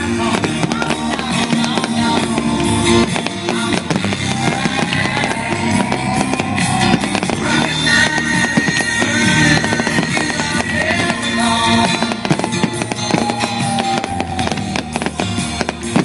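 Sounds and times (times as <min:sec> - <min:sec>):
fireworks bursting and crackling: 0:00.0 - 0:16.0
loud music: 0:00.0 - 0:16.0.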